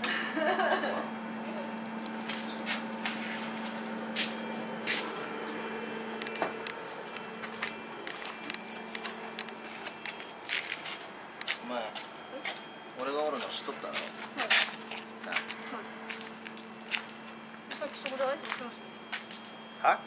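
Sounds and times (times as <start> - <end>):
low electrical hum: 0.0 - 20.0
footsteps: 1.7 - 5.6, 6.3 - 12.7, 13.3 - 19.5.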